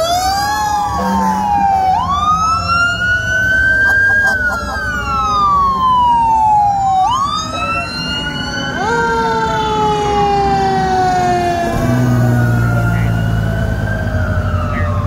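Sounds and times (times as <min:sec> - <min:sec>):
diesel engine drone: 0:00.0 - 0:15.0
fire truck sirens wailing: 0:00.0 - 0:15.0.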